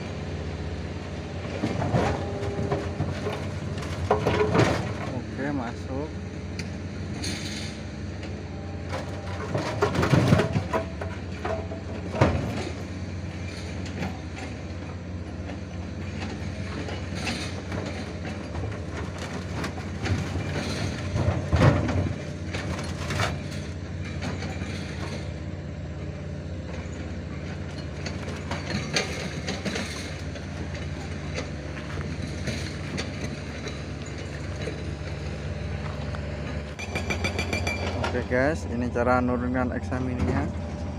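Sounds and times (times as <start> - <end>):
diesel engine running: 0.0 - 40.9
tracks and bucket clanking on metal: 0.0 - 40.9.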